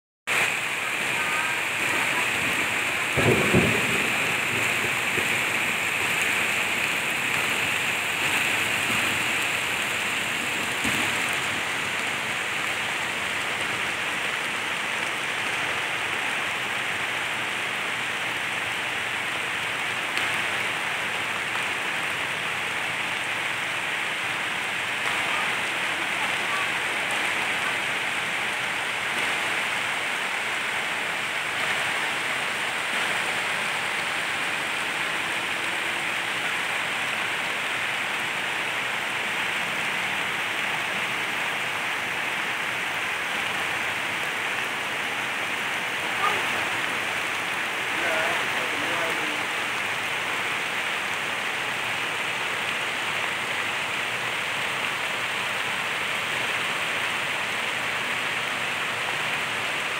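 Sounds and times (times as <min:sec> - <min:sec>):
heavy rain on water and grass: 0:00.2 - 0:59.9.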